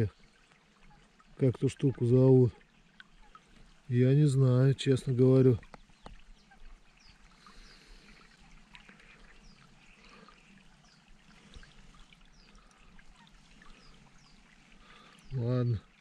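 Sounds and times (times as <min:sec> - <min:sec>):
trickle of running water: 0:00.0 - 0:16.0.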